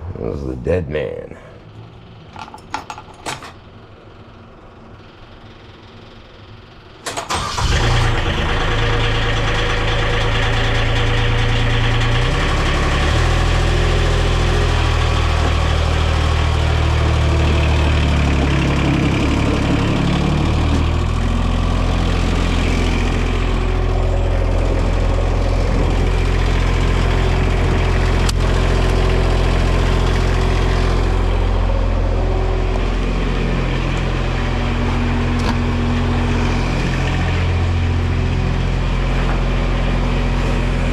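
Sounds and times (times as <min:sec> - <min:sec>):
diesel engine starting and running: 0:00.0 - 0:40.9.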